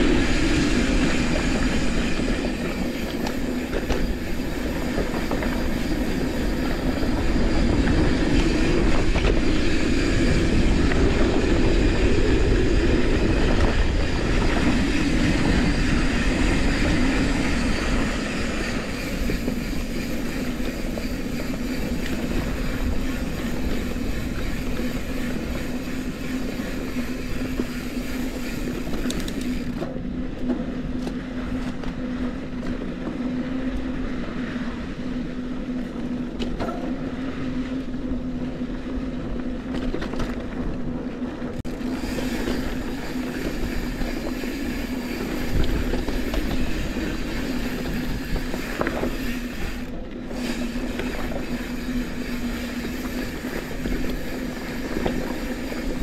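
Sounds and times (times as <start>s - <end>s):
bike tyres rolling on dirt: 0.0s - 56.0s
constant hum: 0.0s - 56.0s.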